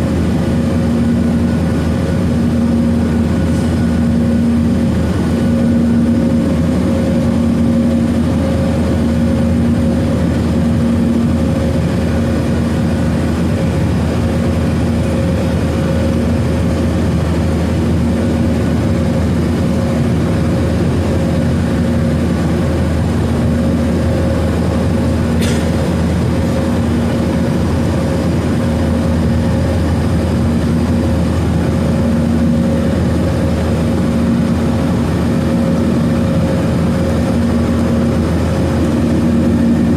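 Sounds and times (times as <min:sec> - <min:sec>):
jet cabin drone: 0:00.0 - 0:39.9.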